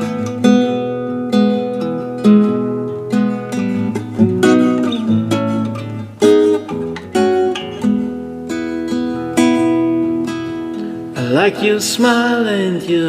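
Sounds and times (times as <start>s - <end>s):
fingerpicked acoustic guitar: 0.0s - 13.0s.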